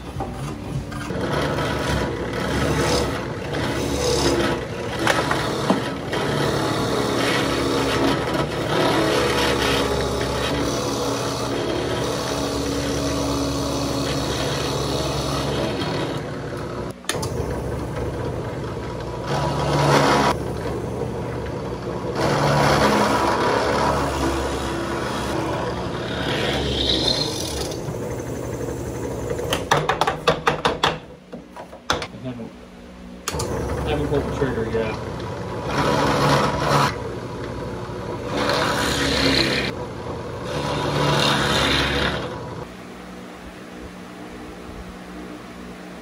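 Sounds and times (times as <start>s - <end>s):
drill press boring into wood: 1.1s - 29.8s, 33.3s - 39.8s, 40.4s - 42.6s.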